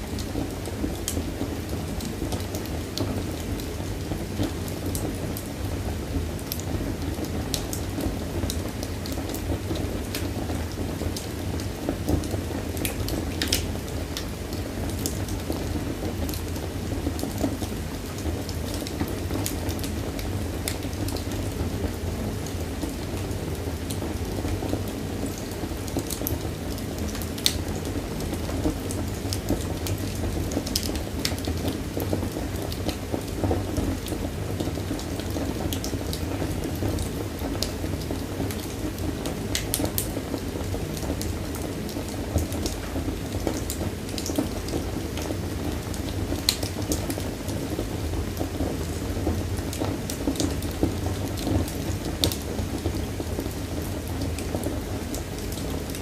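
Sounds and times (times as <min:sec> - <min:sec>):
wood fire rumbling: 0:00.0 - 0:56.0.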